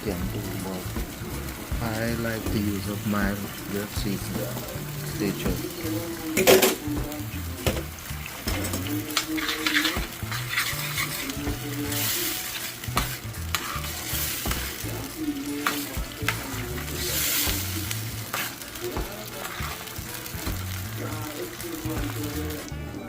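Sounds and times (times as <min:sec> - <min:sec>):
sauce sizzling and simmering: 0:00.0 - 0:23.0
spoon stirring a pot: 0:02.4 - 0:22.7.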